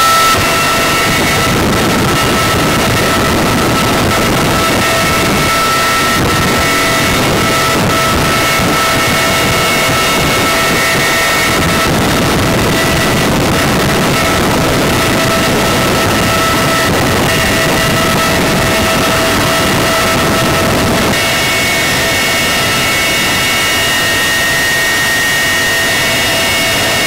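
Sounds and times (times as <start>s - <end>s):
helicopter rotor rushing noise: 0.0s - 27.0s
turbine engine whine: 0.0s - 27.0s.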